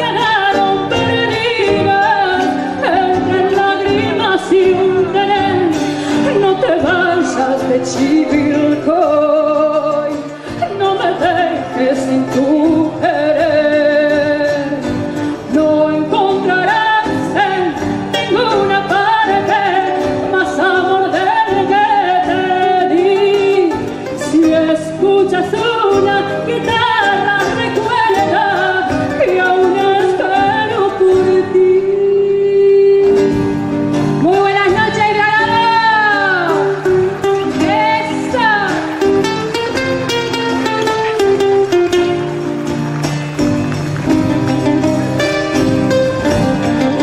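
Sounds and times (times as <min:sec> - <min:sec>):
folk song with sliding melody: 0:00.0 - 0:47.0
instrumental accompaniment: 0:00.0 - 0:47.0.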